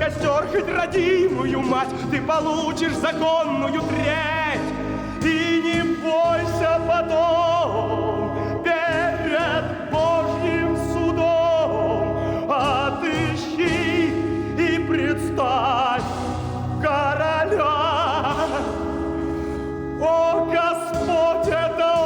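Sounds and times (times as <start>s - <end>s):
instrumental accompaniment: 0.0s - 22.0s
operatic singing with vibrato: 0.0s - 22.0s.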